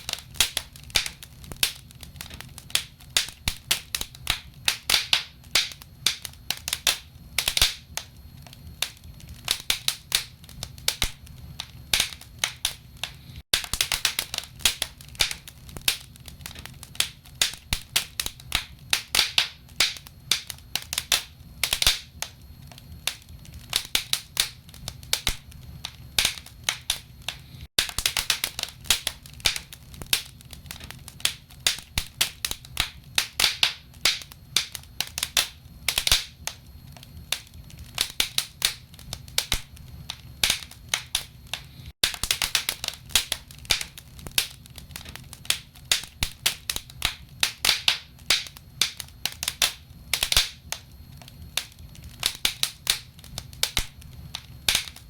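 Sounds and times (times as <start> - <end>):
burning logs popping and snapping: 0.0 - 55.0
flames rumbling: 0.0 - 55.0.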